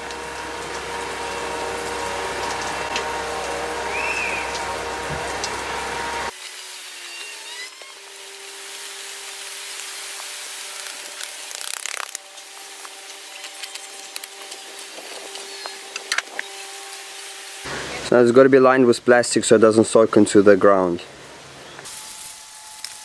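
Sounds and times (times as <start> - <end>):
drainage pump humming: 0.0 - 23.0.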